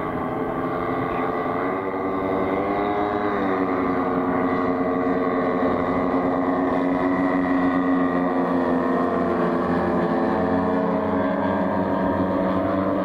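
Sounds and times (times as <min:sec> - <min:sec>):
model airplane engines droning: 0:00.0 - 0:13.0.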